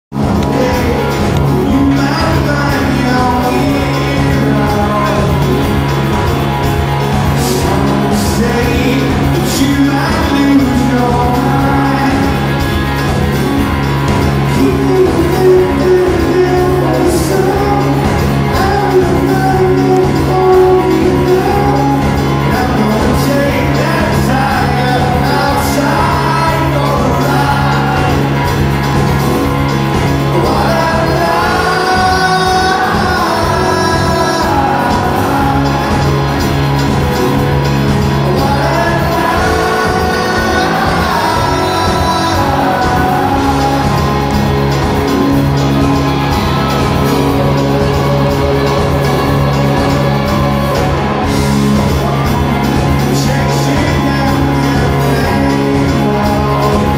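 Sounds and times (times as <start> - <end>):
drums: 0.0 - 56.9
electric guitar: 0.1 - 56.9
male lead vocal singing: 0.1 - 56.9.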